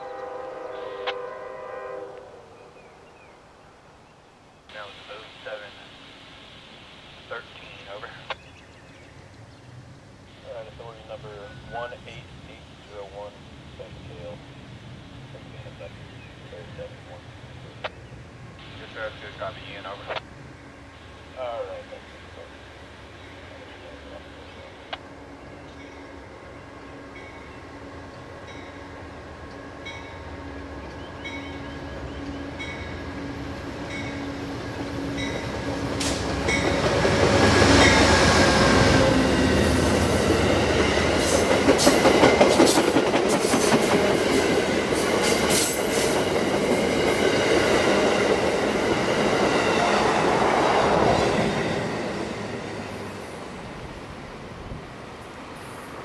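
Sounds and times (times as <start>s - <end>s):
train passing at speed: 0.0s - 3.3s, 4.7s - 56.0s.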